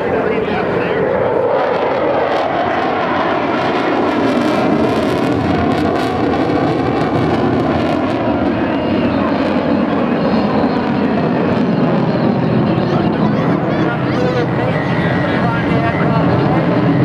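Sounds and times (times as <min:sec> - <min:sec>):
fighter jet engine roaring: 0:00.0 - 0:17.0.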